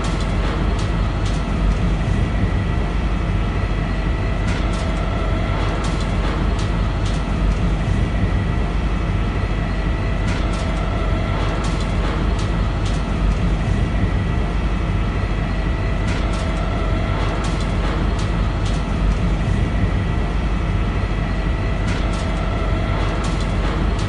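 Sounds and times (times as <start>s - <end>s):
heavy machinery rumble: 0.0s - 24.0s.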